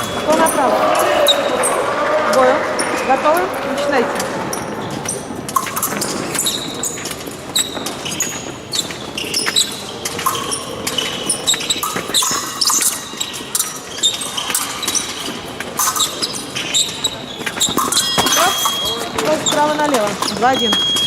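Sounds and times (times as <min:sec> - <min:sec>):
fencing blades clashing: 0:00.0 - 0:21.0
shoes squeaking and stamping: 0:00.0 - 0:21.0.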